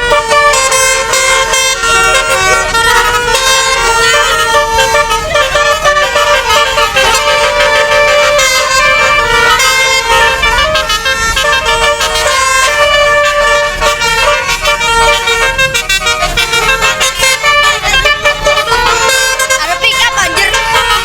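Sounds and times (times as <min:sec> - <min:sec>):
bus musical horn playing a tune: 0:00.0 - 0:21.0.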